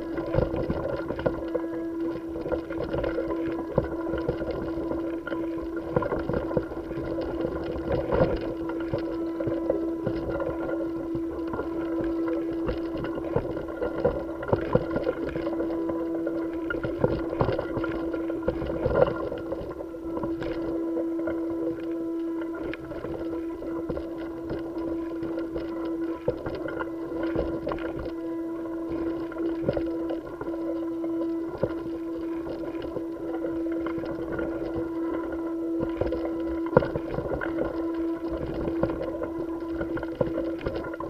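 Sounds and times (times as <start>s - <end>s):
steady mechanical hum: 0.0s - 41.0s.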